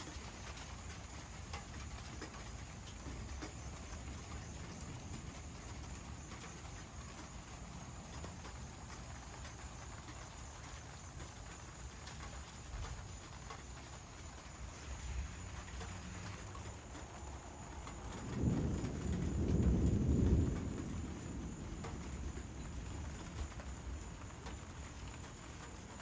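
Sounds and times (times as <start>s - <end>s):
heavy rain pattering: 0.0s - 26.0s
thunder rumble: 0.0s - 26.0s.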